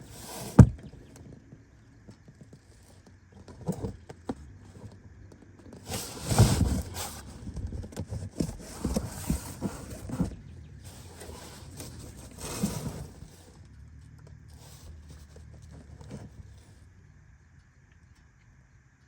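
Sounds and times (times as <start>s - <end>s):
rustling and scraping: 0.0s - 17.0s.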